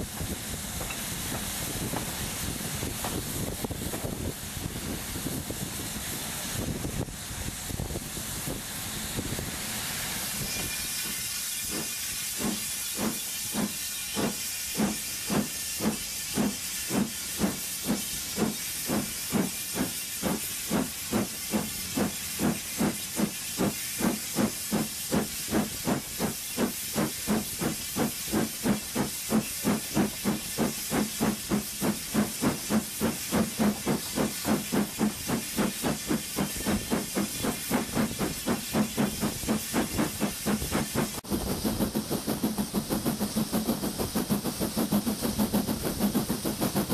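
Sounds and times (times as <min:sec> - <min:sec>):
steam hissing: 0:00.0 - 0:46.9
steam locomotive chuffing: 0:00.0 - 0:46.9.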